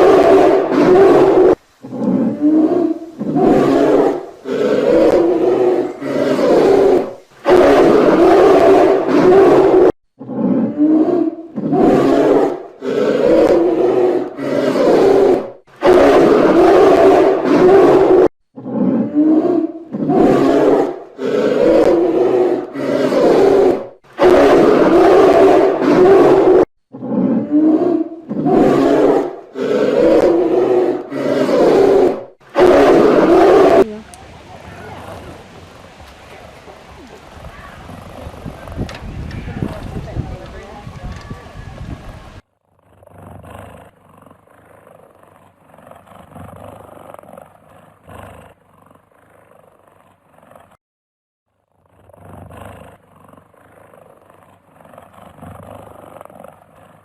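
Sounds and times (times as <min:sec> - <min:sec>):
grizzly bears roaring: 0:00.0 - 0:35.4, 0:42.8 - 0:50.7, 0:52.0 - 0:57.0.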